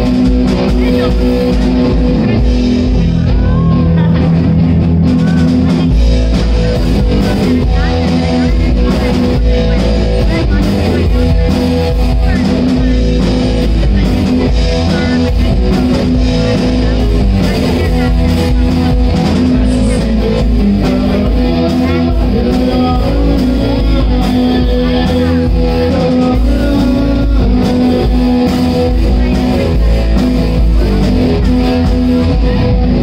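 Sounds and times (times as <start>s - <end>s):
drum kit: 0.0s - 33.0s
electric bass: 0.0s - 33.0s
electric guitar: 0.0s - 33.0s.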